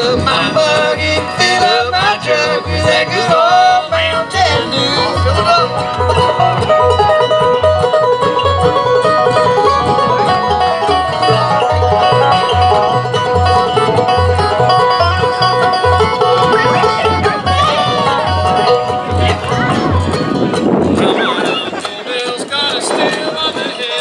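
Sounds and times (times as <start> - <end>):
upright bass thumping: 0.0 - 23.8
acoustic guitar picking: 0.0 - 24.0
banjo picking: 0.0 - 24.0
mandolin picking: 0.0 - 24.0.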